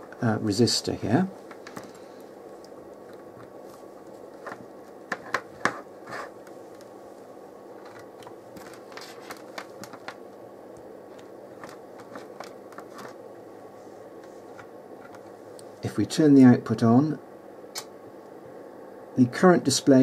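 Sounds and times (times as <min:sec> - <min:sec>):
cooling fan hum: 0:00.0 - 0:20.0.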